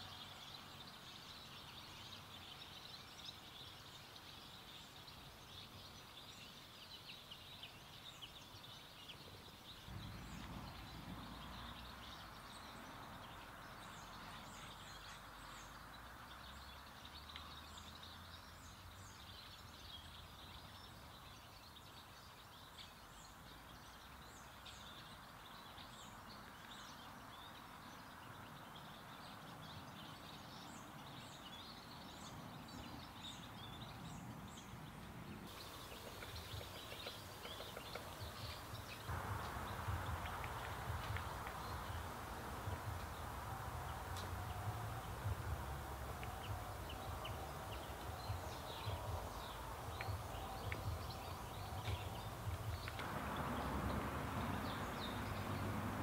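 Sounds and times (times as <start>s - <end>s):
distant birds chirping: 0.0s - 56.0s.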